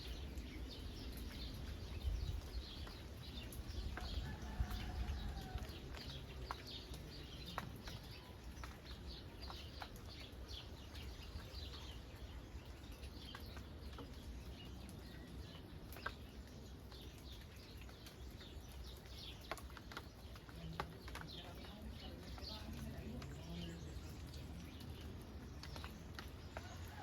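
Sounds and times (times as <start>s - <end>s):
birds chirping: 0.0s - 27.0s
faint rain patter: 0.0s - 27.0s.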